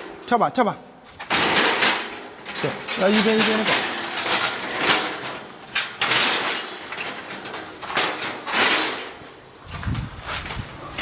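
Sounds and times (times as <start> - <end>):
scaffolding rattling and scraping: 0.0 - 11.0.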